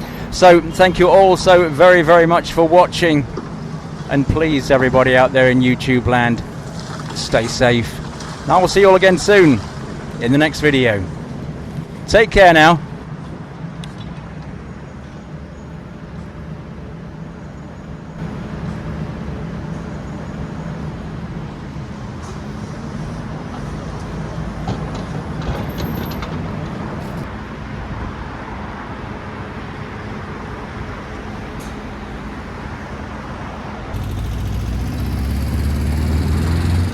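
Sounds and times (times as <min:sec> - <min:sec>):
engine and road traffic hum: 0:00.0 - 0:36.9.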